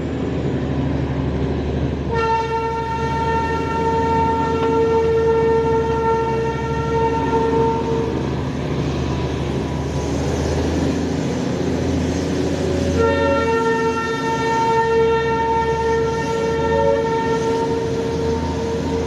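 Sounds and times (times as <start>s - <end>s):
train rumbling along track: 0.0s - 19.0s
diesel train horn: 2.0s - 10.2s, 11.2s - 19.0s.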